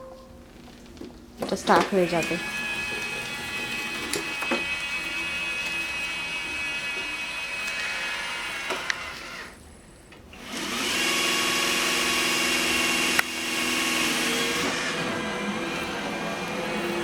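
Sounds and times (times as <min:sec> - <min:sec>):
robot vacuum whirring: 0:01.6 - 0:09.6, 0:10.4 - 0:17.0.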